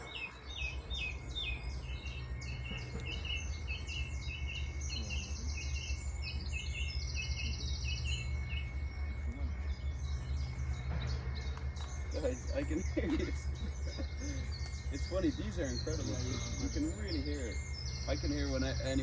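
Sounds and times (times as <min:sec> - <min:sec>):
bird trills: 0:00.0 - 0:19.0
birds chirping: 0:00.0 - 0:19.0
low background rumble: 0:00.0 - 0:19.0.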